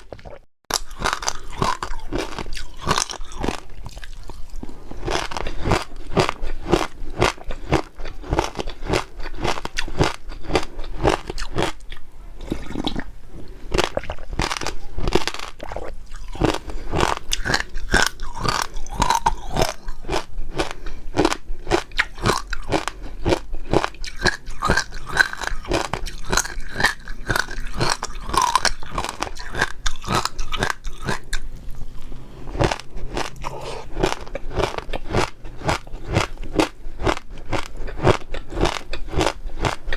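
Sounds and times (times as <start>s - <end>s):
crunching and wet chewing: 0.1s - 39.9s.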